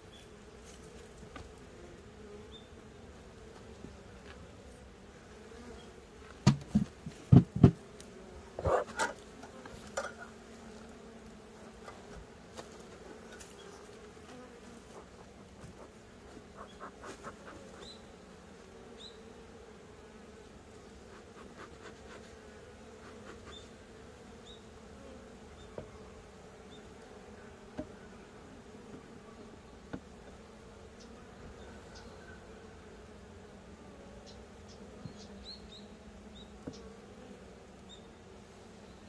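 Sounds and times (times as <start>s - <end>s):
bees buzzing: 0.0s - 39.0s.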